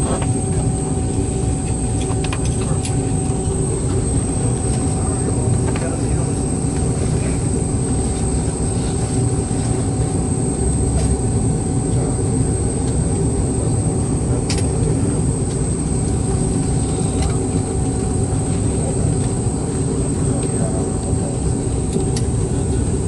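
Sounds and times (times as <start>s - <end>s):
high engine whine: 0.0s - 23.0s
jet engine low rumble: 0.0s - 23.0s.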